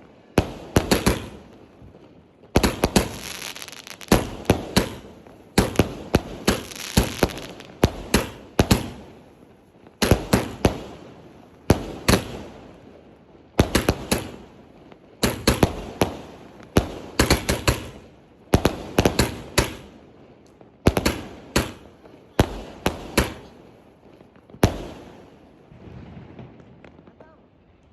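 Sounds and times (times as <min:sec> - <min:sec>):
firework bangs: 0:00.0 - 0:09.4, 0:10.0 - 0:12.5, 0:13.6 - 0:14.6, 0:15.2 - 0:20.0, 0:20.9 - 0:27.4.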